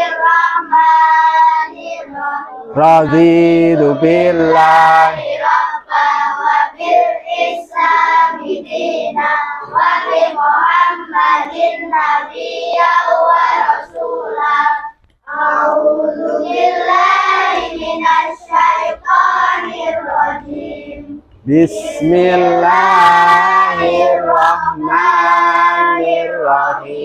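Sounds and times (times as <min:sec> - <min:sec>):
children chanting a prayer: 0:00.0 - 0:27.0.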